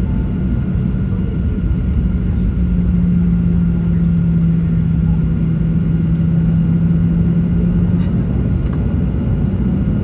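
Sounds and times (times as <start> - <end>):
jet engines idling in cabin: 0.0 - 10.0.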